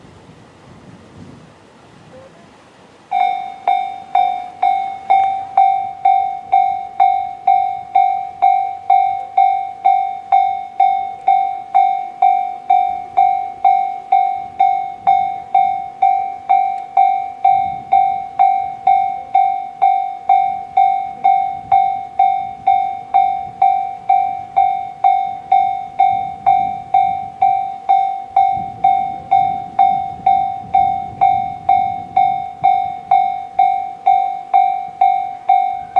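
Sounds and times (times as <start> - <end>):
level crossing warning bell: 2.2 - 35.9.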